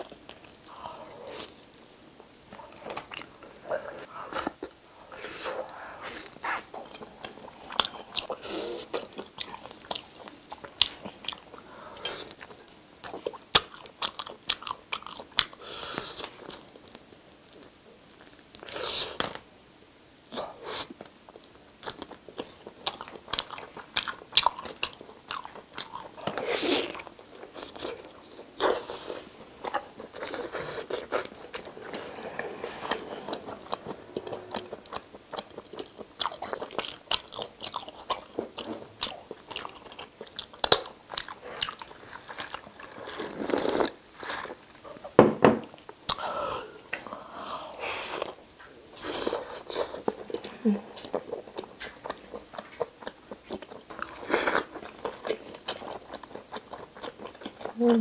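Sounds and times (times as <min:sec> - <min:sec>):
person chewing food: 0:00.0 - 0:19.4, 0:20.3 - 0:45.1, 0:45.7 - 0:58.0.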